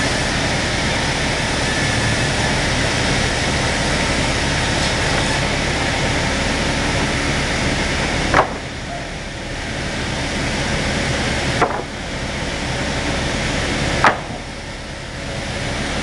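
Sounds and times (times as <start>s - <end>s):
sawing machine cutting timber: 0.0s - 16.0s.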